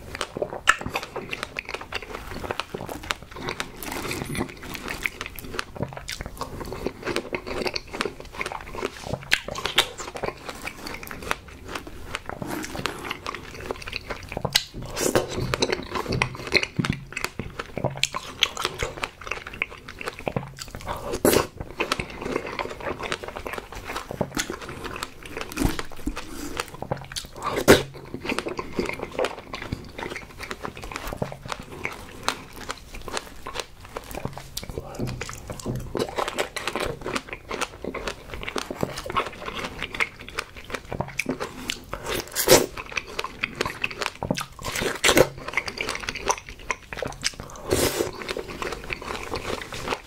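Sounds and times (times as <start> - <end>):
chewing strawberries: 0.0 - 50.0.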